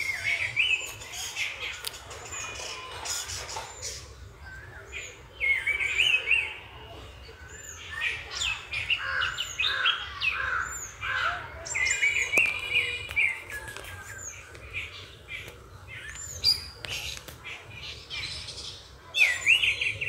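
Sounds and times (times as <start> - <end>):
warbling birdsong: 0.0 - 20.0.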